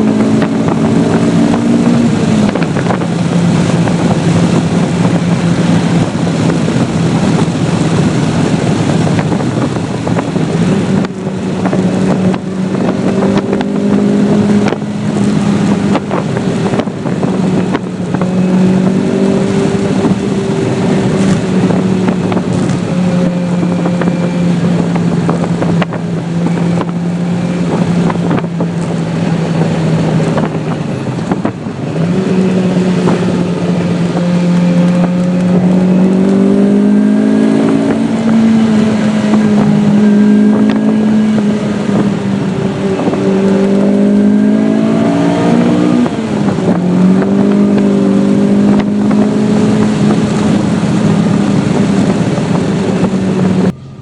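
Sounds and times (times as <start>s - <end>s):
car engine from inside cabin: 0.0s - 54.0s
road and wind noise: 0.0s - 54.0s.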